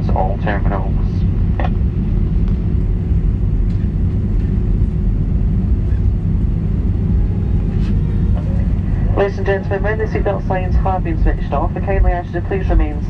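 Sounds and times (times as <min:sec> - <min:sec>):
aircraft cabin rumble: 0:00.0 - 0:13.0
faint steady hum: 0:00.0 - 0:13.0.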